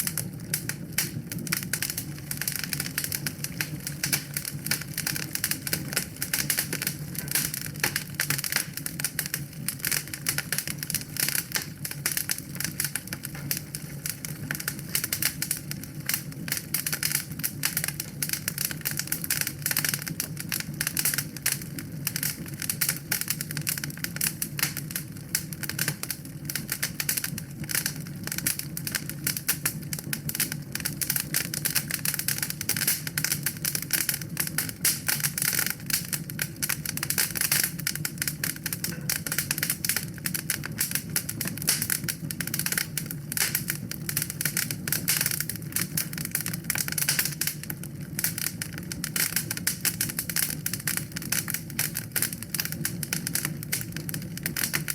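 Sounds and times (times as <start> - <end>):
fire crackling in fireplace: 0.0 - 54.9.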